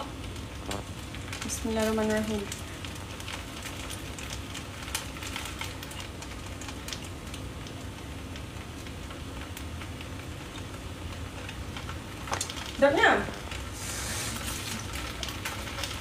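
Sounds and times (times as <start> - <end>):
noodles sizzling in a wok: 0.0 - 16.0.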